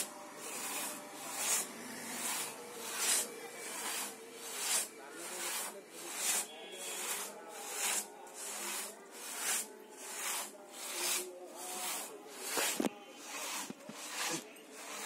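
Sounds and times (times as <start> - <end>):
pit saw rasping through wood: 0.0 - 15.0.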